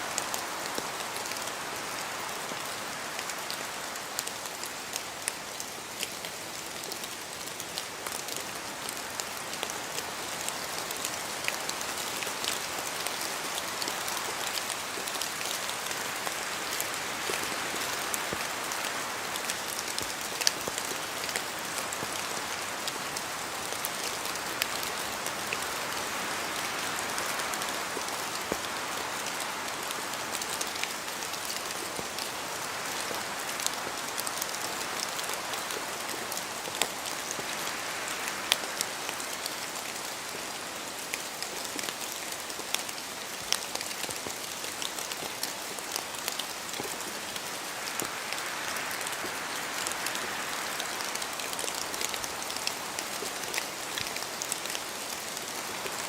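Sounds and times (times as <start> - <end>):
rain pattering in a forest: 0.0 - 56.0
wind through trees: 0.0 - 56.0.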